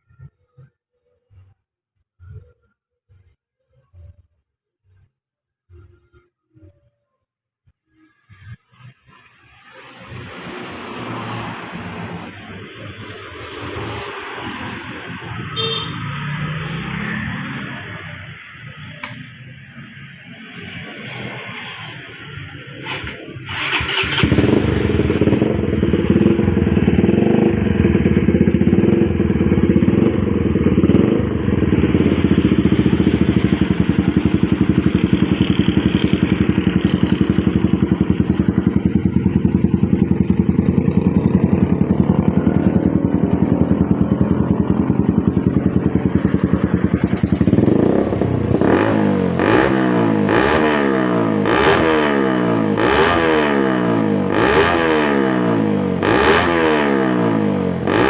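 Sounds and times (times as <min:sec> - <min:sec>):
motorcycle engine idling and revving: 0:08.3 - 0:58.0.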